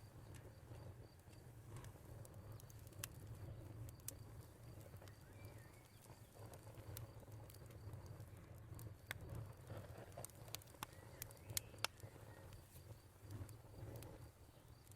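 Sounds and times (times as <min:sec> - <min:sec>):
cricket chirping: 0:00.0 - 0:14.9
wood fire crackling: 0:00.0 - 0:14.9.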